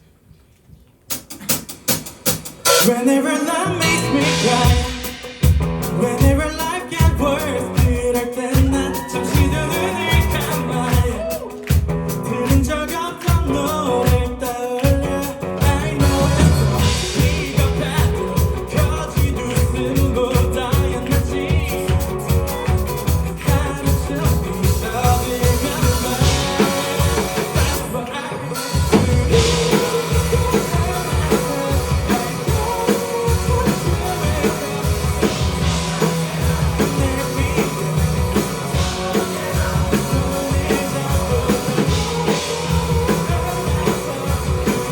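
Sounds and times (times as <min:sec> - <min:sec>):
live band playing pop-rock: 0:01.1 - 0:44.9
person singing: 0:02.7 - 0:44.9.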